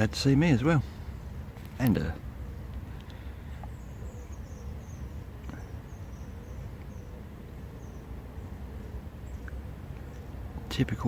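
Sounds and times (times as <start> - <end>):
low outdoor rumble: 0.0 - 11.0
small bird chirping: 0.4 - 11.0.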